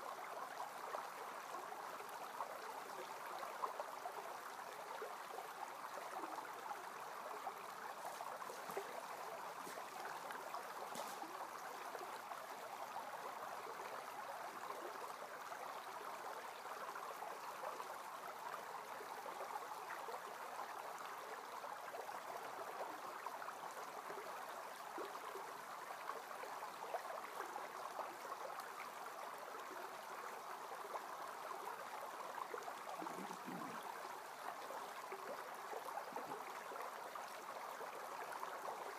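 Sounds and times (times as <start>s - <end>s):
creek flowing: 0.0s - 38.9s.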